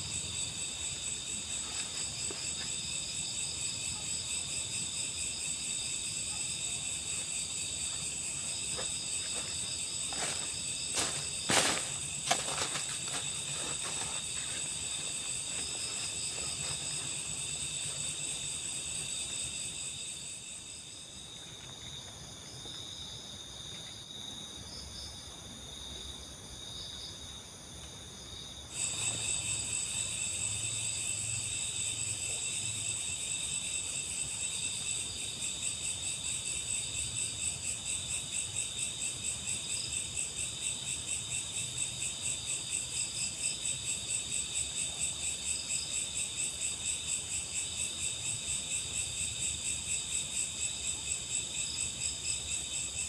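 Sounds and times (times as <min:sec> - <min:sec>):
crickets and insects trilling: 0:00.0 - 0:53.0.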